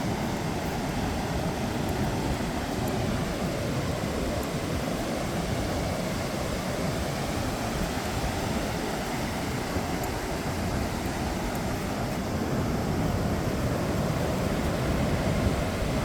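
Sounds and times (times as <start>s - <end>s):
ocean surf on a beach: 0.0s - 16.0s
wind buffeting microphone: 0.0s - 16.0s.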